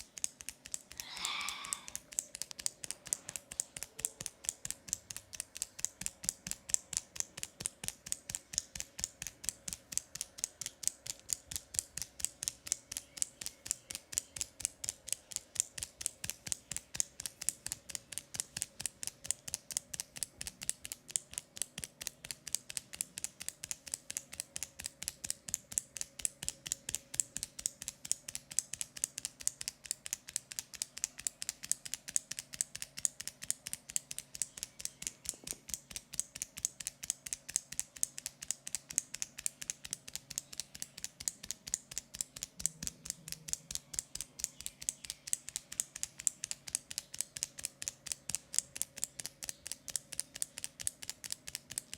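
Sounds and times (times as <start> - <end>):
rapid sharp clicking: 0.0 - 1.1, 1.7 - 51.9.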